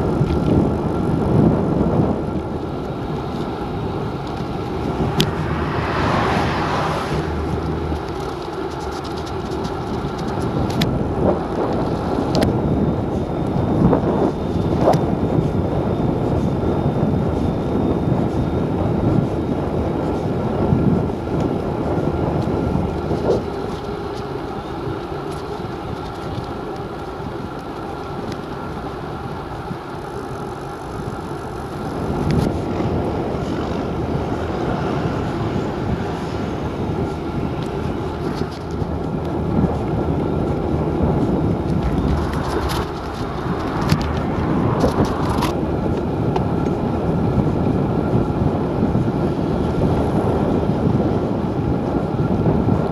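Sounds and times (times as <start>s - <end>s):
bicycle road noise: 0.0s - 52.9s
wind buffeting microphone: 0.0s - 52.9s.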